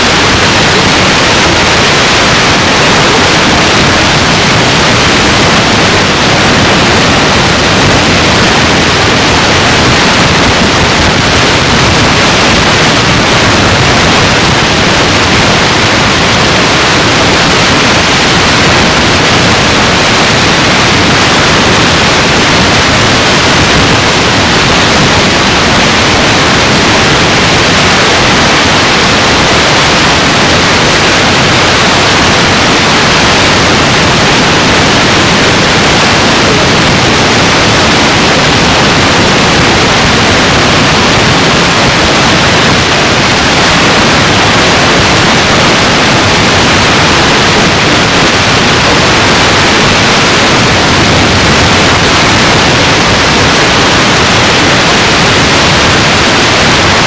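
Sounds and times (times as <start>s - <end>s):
steady static hiss: 0.0s - 57.0s.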